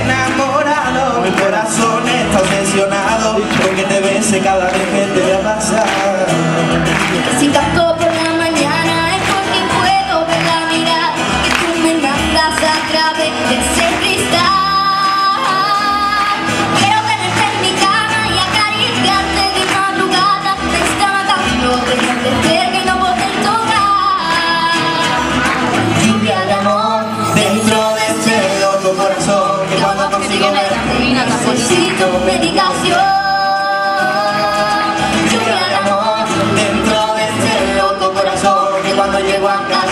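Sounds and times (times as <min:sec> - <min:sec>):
acoustic guitars strummed: 0:00.0 - 0:39.9
boy singing into microphone: 0:07.2 - 0:39.9.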